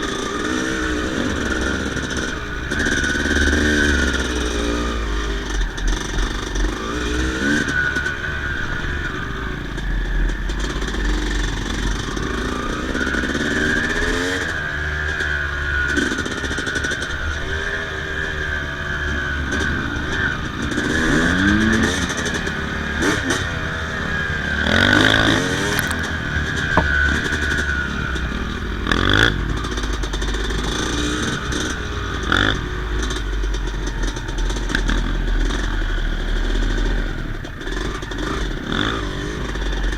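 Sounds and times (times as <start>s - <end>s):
motocross bike revving: 0.0s - 39.9s.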